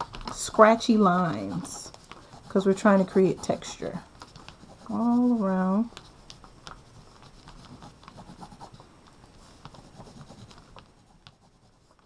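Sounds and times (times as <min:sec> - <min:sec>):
oil pastel scratching on paper: 0:00.0 - 0:12.0.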